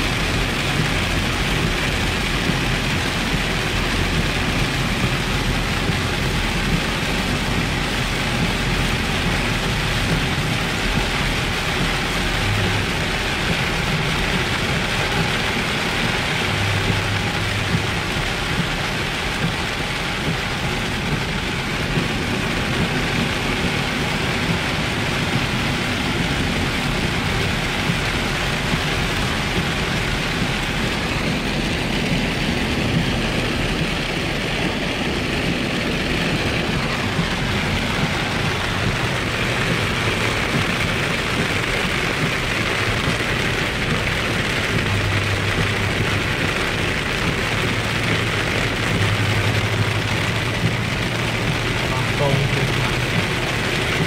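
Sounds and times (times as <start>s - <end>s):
car engine and tyre noise: 0.0s - 54.0s
heavy rain on car: 0.0s - 54.0s.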